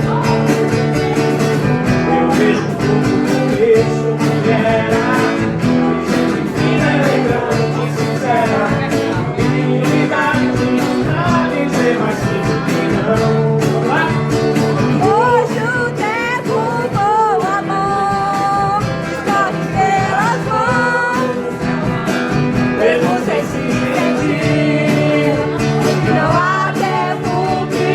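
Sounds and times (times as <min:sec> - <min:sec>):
guitar over a steady beat: 0:00.0 - 0:27.9
person singing: 0:00.0 - 0:27.9.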